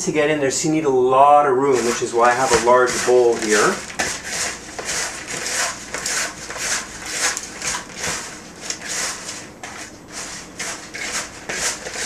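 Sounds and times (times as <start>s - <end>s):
hands tossing food in a bowl: 1.7s - 12.0s.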